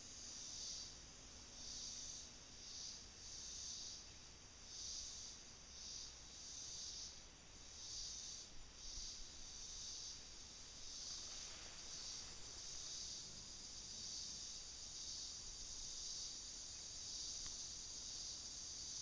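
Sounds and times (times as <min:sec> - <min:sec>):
insects buzzing: 0:00.0 - 0:19.0
thin high insect trill: 0:00.0 - 0:19.0.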